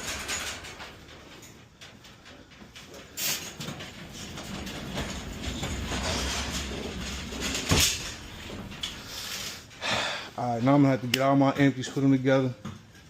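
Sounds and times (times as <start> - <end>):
cart rolling and rattling: 0.0 - 13.0.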